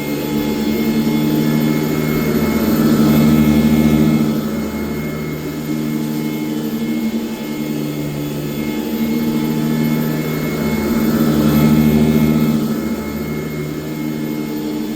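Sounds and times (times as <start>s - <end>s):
upright vacuum cleaner running: 0.0s - 14.9s.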